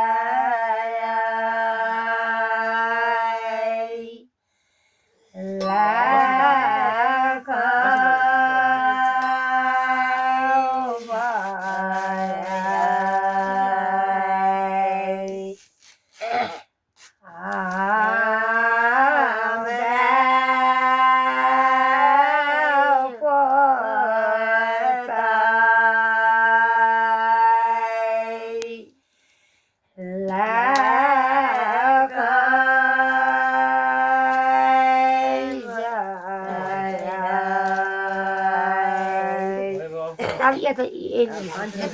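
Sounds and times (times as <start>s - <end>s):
person singing with vibrato: 0.0s - 4.3s, 5.3s - 15.6s, 16.2s - 29.0s, 30.0s - 41.9s.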